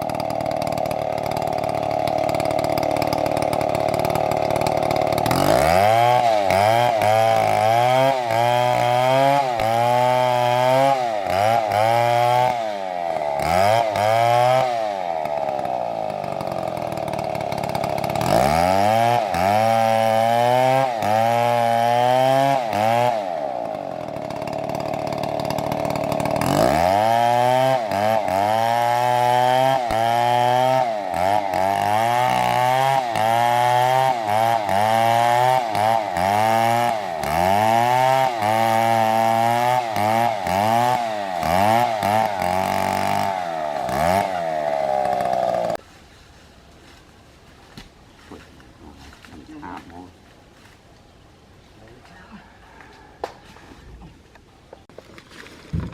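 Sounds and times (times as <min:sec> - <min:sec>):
chainsaw cutting a tree: 0:00.0 - 0:45.8, 0:48.8 - 0:50.8.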